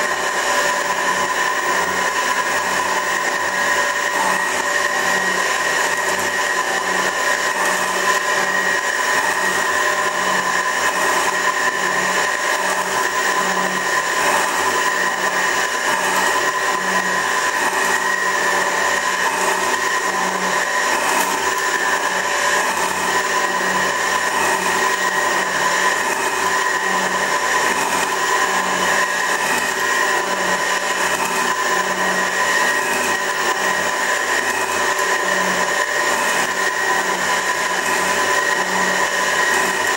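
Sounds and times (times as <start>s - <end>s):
metal shaper whining: 0.0s - 39.9s.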